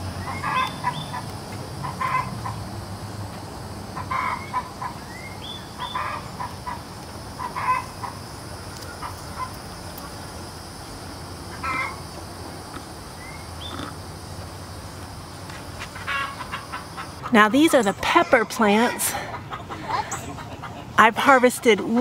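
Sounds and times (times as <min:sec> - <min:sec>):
birds calling: 0:00.0 - 0:02.6, 0:04.0 - 0:12.2, 0:13.1 - 0:15.1, 0:15.8 - 0:22.0.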